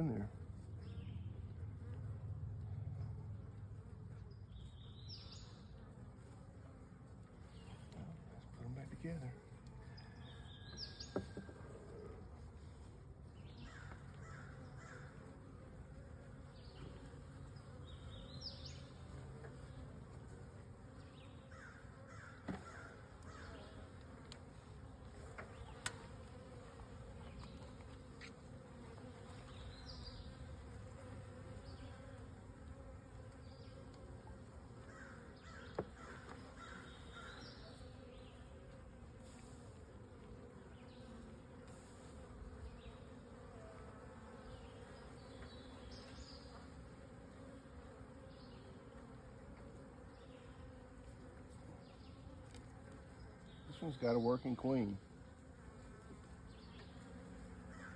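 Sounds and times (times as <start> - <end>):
bees buzzing: 0.0 - 57.9.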